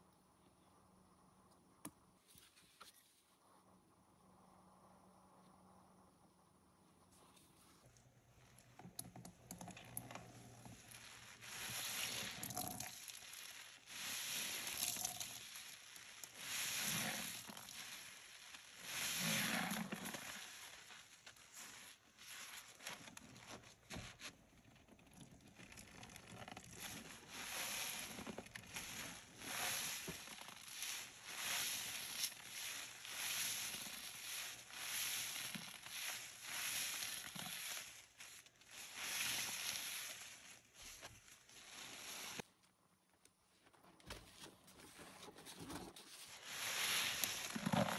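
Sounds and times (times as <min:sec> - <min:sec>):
sponge foam squishing crackle: 0:07.0 - 0:47.9.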